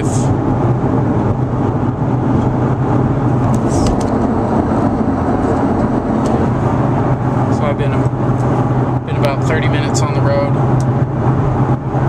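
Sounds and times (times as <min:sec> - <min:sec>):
car road and engine drone: 0:00.0 - 0:12.0
strong low hum: 0:00.0 - 0:12.0.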